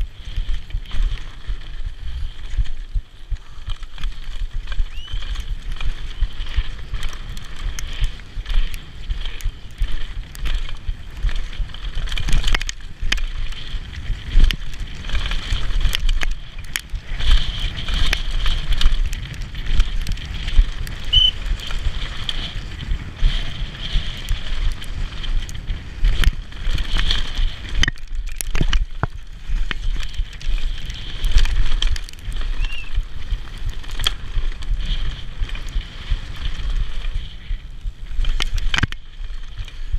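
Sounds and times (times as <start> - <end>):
bike tyres rolling over dirt and rocks: 0.0 - 39.9
wind rumble on microphone: 0.0 - 39.9
chain and bike rattling: 3.6 - 37.2.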